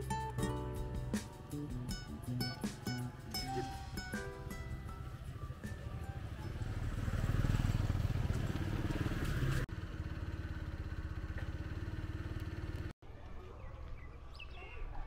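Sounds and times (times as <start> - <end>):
motorbike engines running: 1.9 - 14.2.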